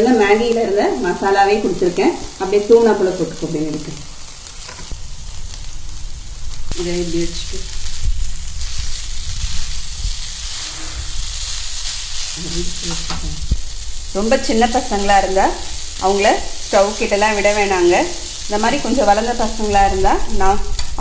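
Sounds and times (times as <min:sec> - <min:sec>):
noodles sizzling in a pan: 0:00.0 - 0:21.0.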